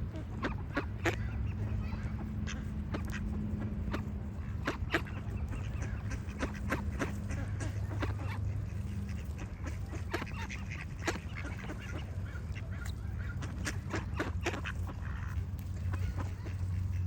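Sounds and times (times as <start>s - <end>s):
ducks quacking: 0.0s - 17.0s
low steady hum: 0.0s - 17.0s
small birds chirping: 0.0s - 17.0s.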